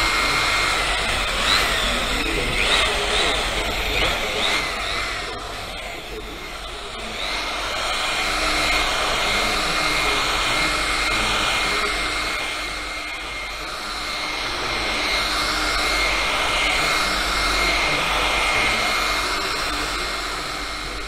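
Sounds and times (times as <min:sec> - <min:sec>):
electric polisher whining: 0:00.0 - 0:21.0.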